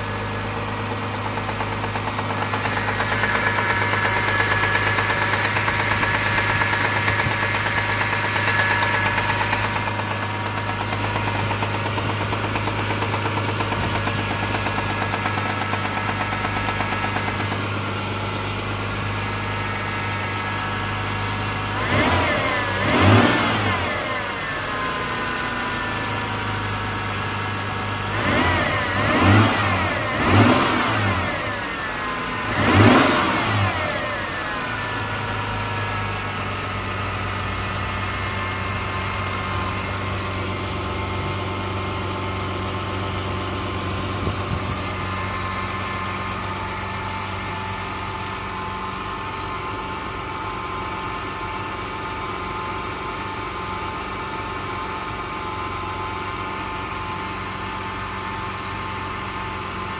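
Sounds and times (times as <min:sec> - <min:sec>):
car engine with tapping knock: 0:00.0 - 0:49.7.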